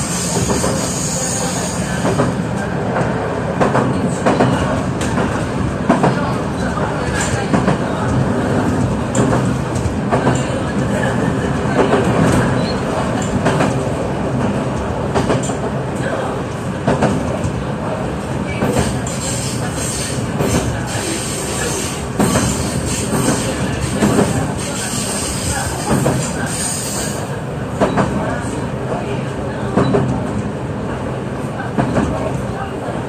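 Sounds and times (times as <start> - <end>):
train wheels rumbling: 0.0 - 33.0.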